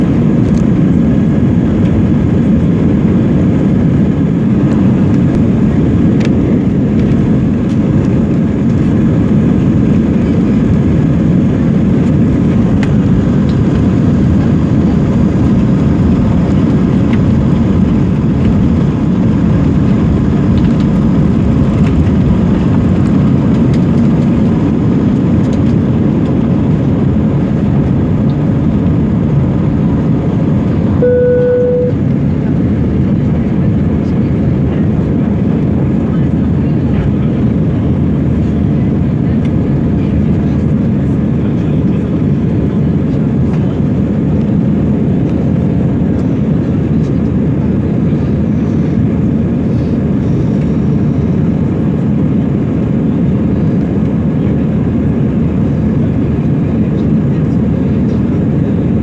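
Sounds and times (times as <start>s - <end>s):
airliner engines rumbling: 0.0s - 59.0s.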